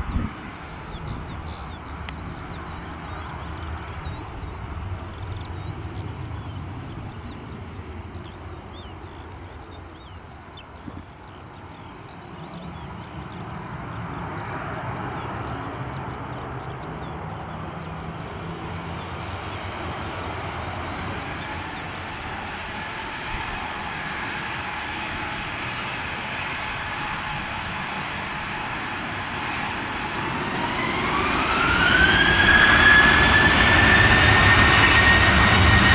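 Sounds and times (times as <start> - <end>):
jet engines whine and rumble: 0.0 - 35.9.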